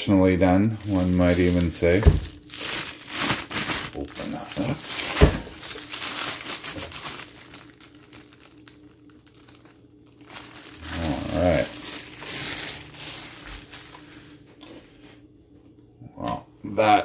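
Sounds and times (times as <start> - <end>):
plastic wrapping crinkling: 0.5 - 14.5.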